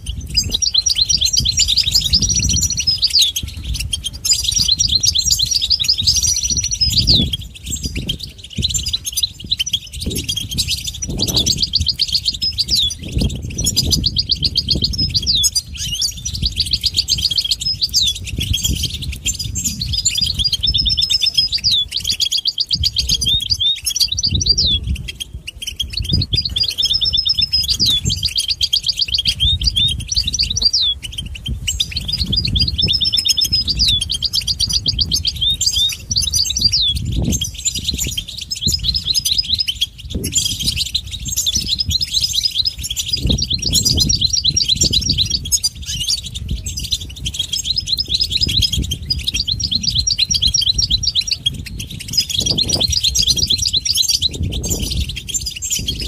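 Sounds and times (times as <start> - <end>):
goldfinch twittering and trills: 0.0 - 56.0.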